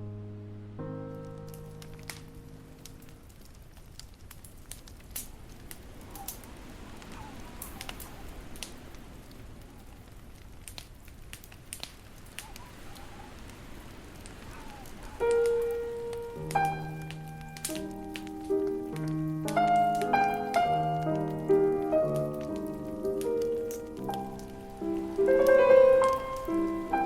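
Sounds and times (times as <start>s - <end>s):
fireplace crackling: 0.0s - 27.0s.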